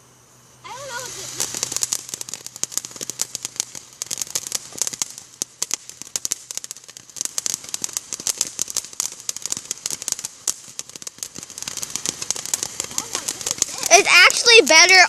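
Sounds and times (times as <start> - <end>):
firework fountain hissing and crackling: 0.0 - 15.0.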